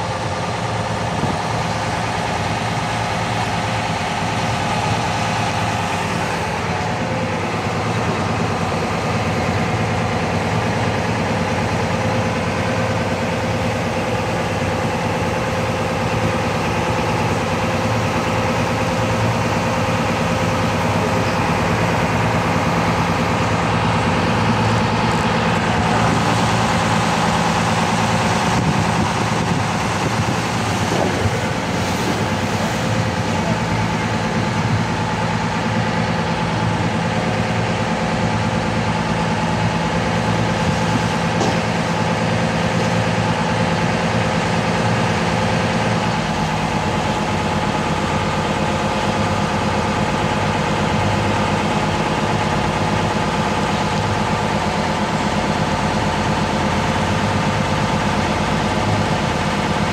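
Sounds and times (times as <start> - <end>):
boat engine rumbling: 0.0 - 59.9.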